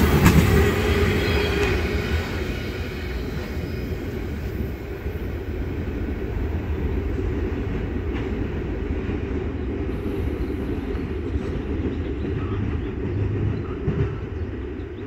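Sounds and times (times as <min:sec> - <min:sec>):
train cars rumbling on rails: 0:00.0 - 0:15.0.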